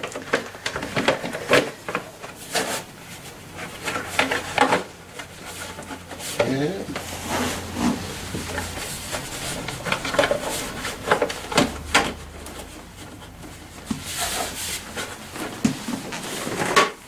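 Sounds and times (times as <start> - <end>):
plastic scraping and rubbing: 0.0 - 17.0.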